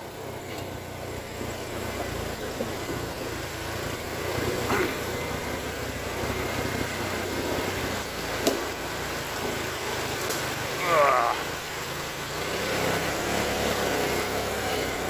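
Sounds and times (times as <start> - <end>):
atv engine running: 0.0 - 15.0
creek water rushing: 1.1 - 15.0.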